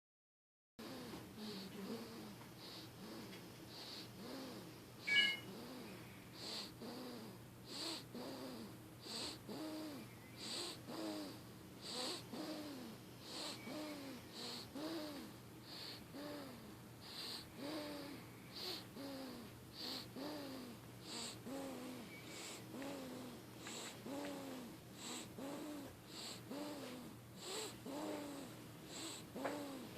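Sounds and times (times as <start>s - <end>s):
baby snoring: 0.8s - 29.9s.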